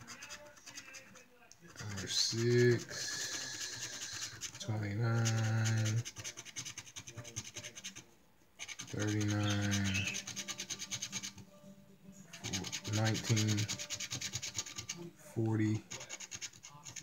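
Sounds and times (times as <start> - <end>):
coin scraping scratch card: 0.0 - 11.5, 12.3 - 17.0.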